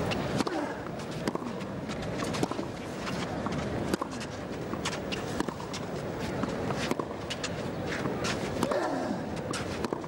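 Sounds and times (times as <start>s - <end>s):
racket striking tennis ball: 0.1s - 3.2s, 3.8s - 8.9s, 9.5s - 10.0s.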